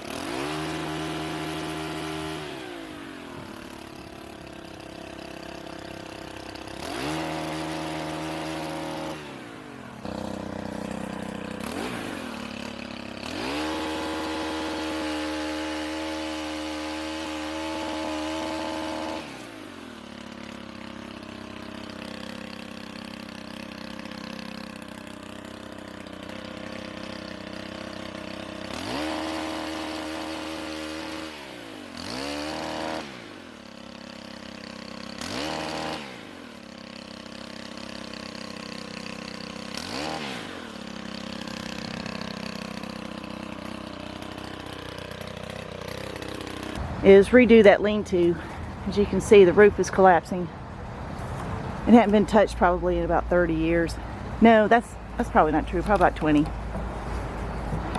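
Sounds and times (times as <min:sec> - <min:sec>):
chainsaw engine revving: 0:00.0 - 0:50.5, 0:51.1 - 0:57.9.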